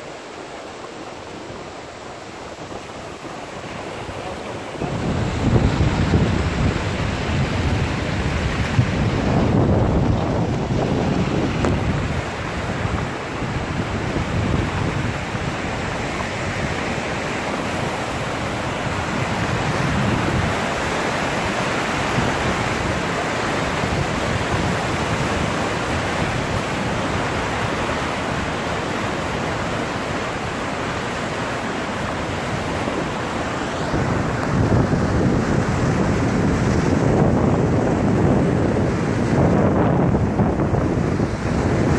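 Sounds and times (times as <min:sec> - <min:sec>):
flood water rushing: 0:00.0 - 0:41.9
wind buffeting microphone: 0:00.8 - 0:41.9.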